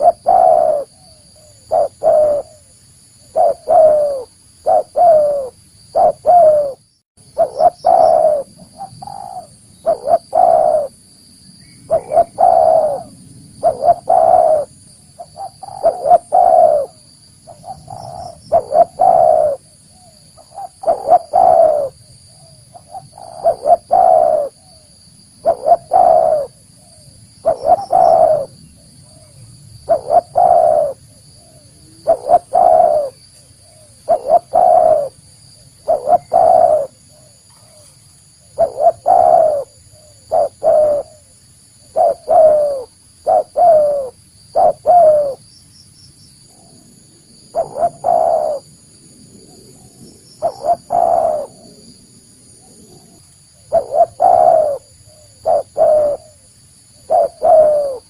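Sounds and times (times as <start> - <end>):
dove cooing: 0.0 - 11.0, 11.9 - 35.2, 35.8 - 45.4, 46.5 - 48.7, 49.4 - 52.0, 52.6 - 58.0.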